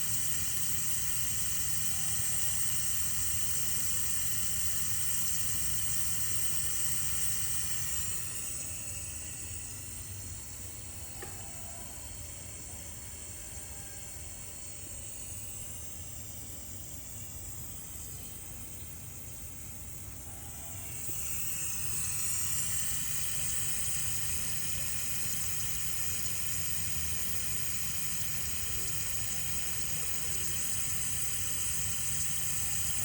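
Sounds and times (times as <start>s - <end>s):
refrigerant gas hissing: 0.0s - 33.0s.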